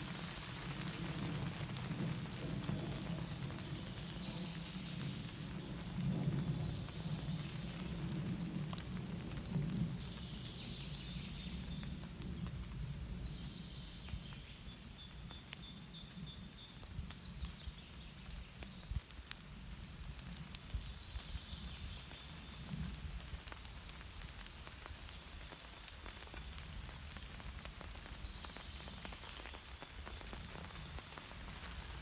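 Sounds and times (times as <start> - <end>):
rain-like patter of clicks: 0.0 - 32.0.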